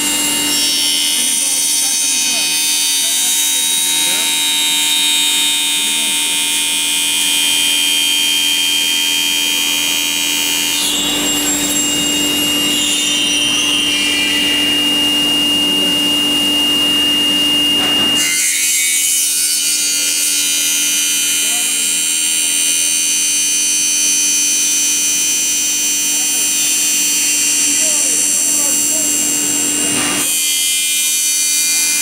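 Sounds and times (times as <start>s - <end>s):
disc saw cutting aluminium: 0.0s - 32.0s
spindle high-pitched whine: 0.0s - 32.0s.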